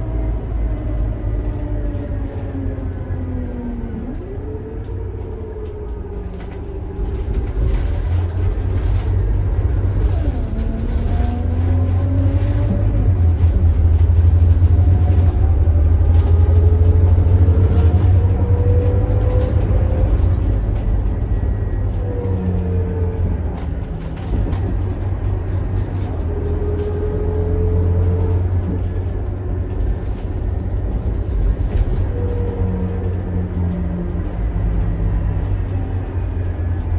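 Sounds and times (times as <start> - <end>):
bus diesel engine rumbling: 0.0 - 36.9.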